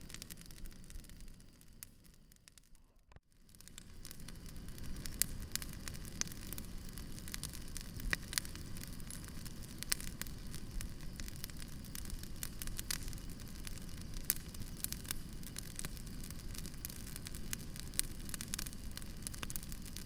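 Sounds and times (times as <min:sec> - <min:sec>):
campfire crackling and popping: 0:00.0 - 0:02.8, 0:03.4 - 0:20.0.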